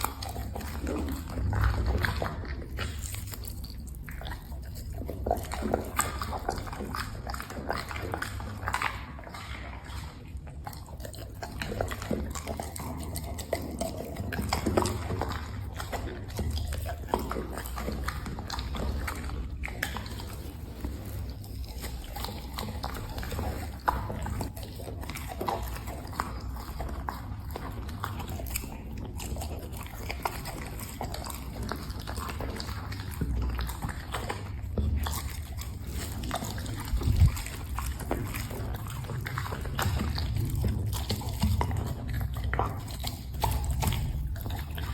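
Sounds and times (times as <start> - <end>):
dog chewing food: 0.0 - 44.9.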